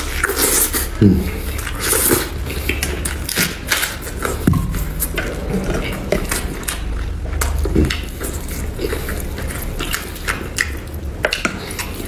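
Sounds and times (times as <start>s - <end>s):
person chewing meat: 0.0s - 12.0s.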